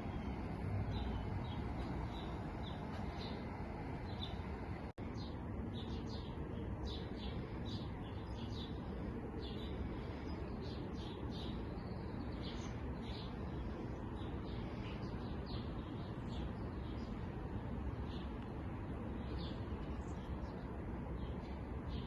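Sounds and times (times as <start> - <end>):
low background noise: 0.0 - 22.0
small songbirds chirping: 0.0 - 22.0.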